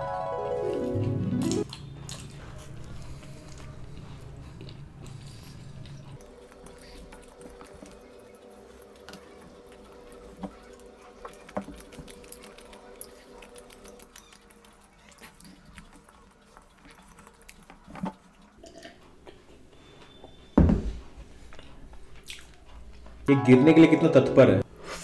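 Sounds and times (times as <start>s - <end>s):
chewing bread: 0.7s - 19.6s, 21.4s - 23.2s.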